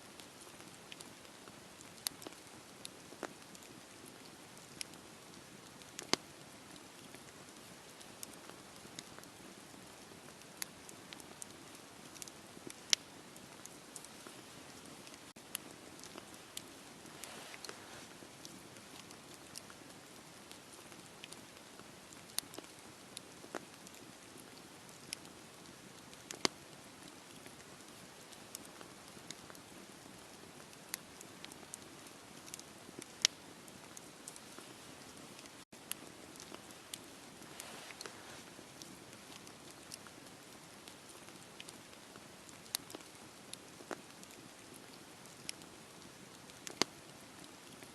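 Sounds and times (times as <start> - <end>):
fire crackling and popping: 0.0 - 47.9.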